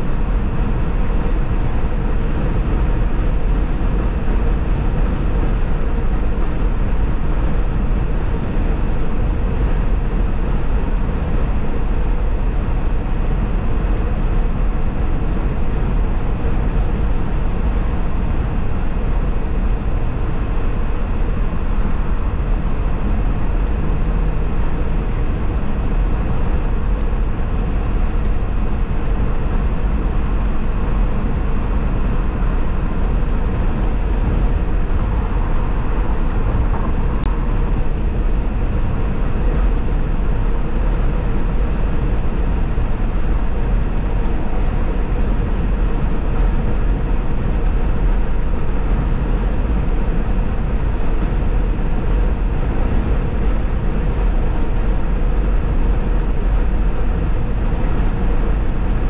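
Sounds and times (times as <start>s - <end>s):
car driving at highway speed: 0.0s - 59.0s.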